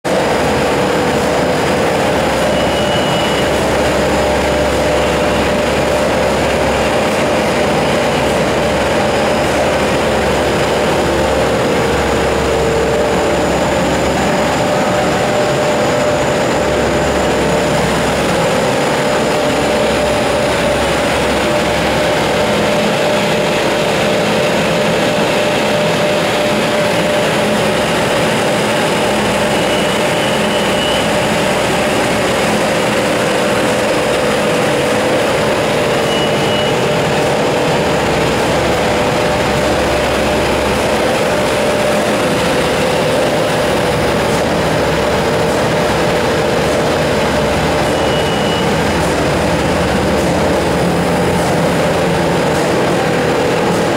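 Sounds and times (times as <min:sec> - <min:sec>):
deep machine drone: 0:00.0 - 0:53.9
machine whine: 0:00.1 - 0:53.9
printing machine humming: 0:00.1 - 0:53.9.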